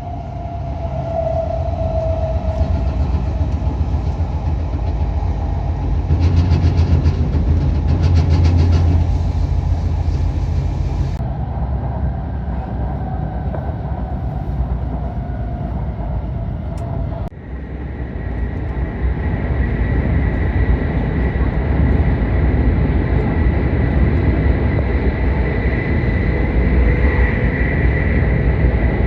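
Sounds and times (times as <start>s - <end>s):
high whine: 0.0s - 29.0s
train rumbling on rails: 0.0s - 29.0s.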